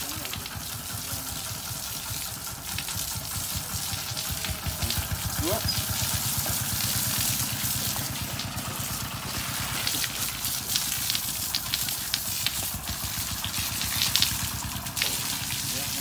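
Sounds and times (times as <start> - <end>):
hose spraying water: 0.0 - 16.0
splashes and knocks: 0.0 - 16.0.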